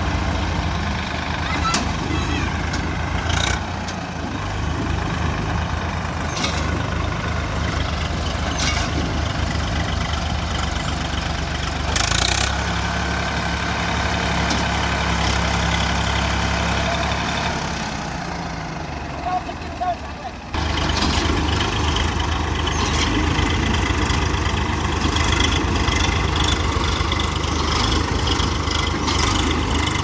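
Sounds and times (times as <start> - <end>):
tractor engine pulsing: 0.0 - 30.0.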